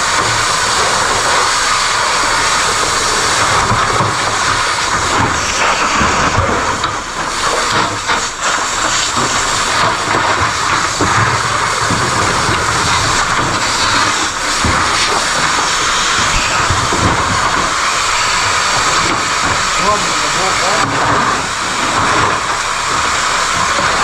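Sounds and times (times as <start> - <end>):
loud hissing rush: 0.0 - 24.0.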